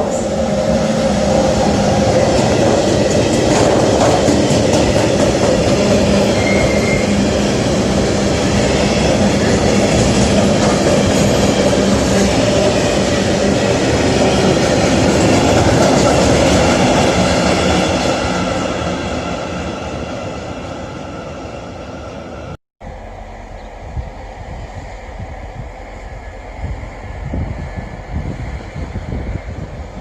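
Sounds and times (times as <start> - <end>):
train running with low hum: 0.0 - 30.0.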